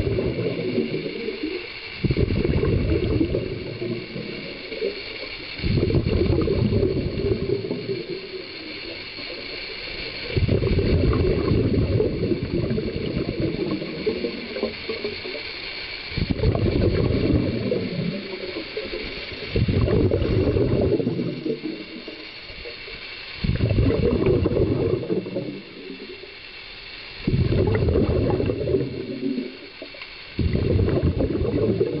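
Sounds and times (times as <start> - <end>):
underwater regulator bubbles: 0.0 - 26.5, 27.1 - 32.0.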